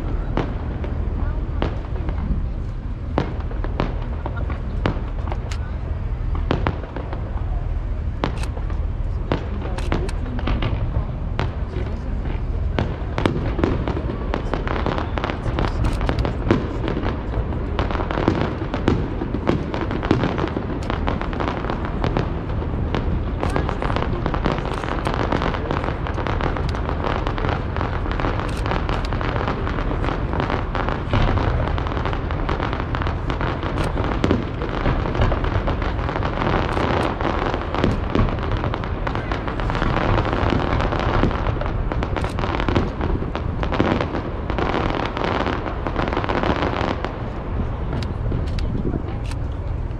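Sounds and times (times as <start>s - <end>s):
fireworks bursting with bangs and crackles: 0.0s - 49.9s.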